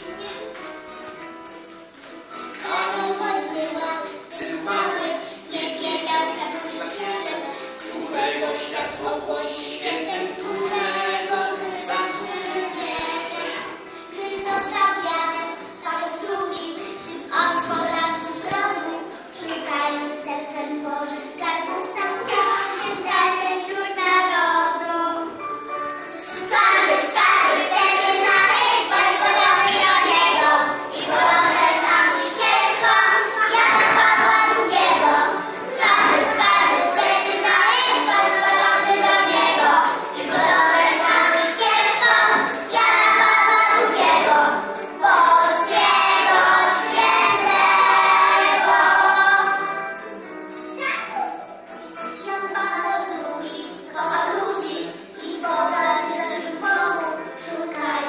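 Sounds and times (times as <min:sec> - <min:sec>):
children singing in unison: 0:02.3 - 0:25.4, 0:26.0 - 0:50.3, 0:52.0 - 0:58.0.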